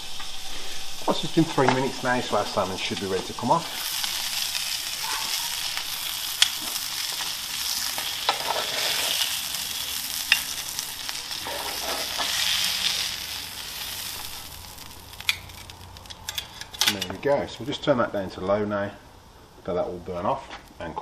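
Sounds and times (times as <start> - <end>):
fish sizzling on hot plate: 0.0 - 17.0.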